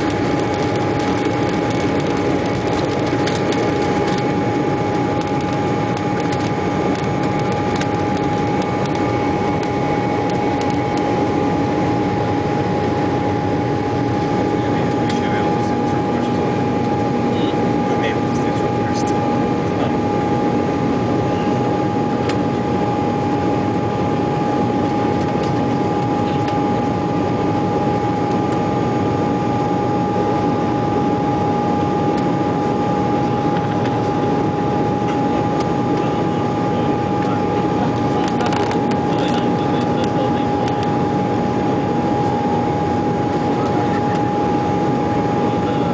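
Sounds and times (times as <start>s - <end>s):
jet engine cabin rush: 0.0s - 45.9s
steady engine tone: 0.0s - 45.9s.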